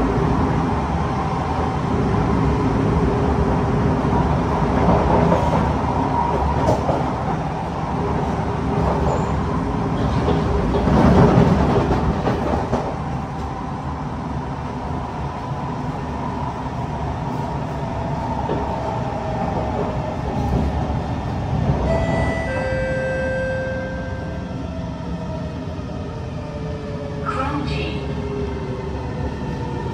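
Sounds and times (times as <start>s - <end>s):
train cabin rumble and hum: 0.0s - 29.9s.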